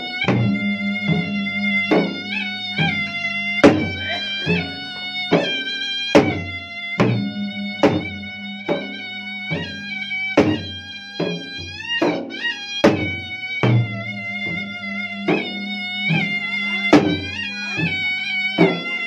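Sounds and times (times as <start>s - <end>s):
double-headed drums beaten: 0.0s - 19.0s
reedy double-reed pipe melody: 0.0s - 19.0s.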